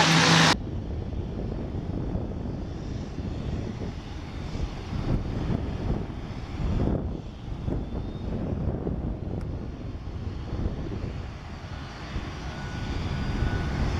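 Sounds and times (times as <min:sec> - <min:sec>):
aircraft engine rumble: 0:00.0 - 0:13.9.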